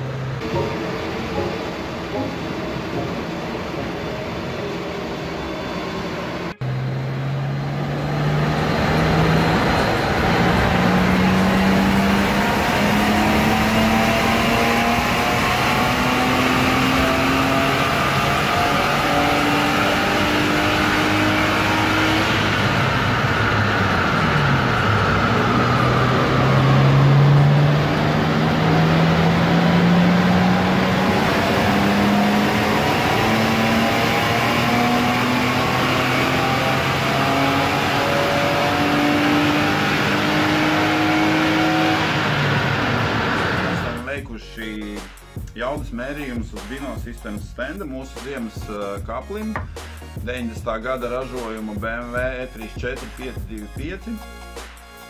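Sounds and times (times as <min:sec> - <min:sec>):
car engine revving under load: 0:00.0 - 0:44.2.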